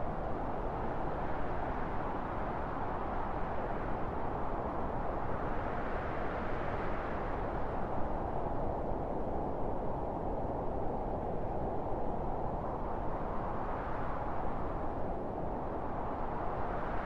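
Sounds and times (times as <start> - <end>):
strong steady wind: 0.0 - 17.0.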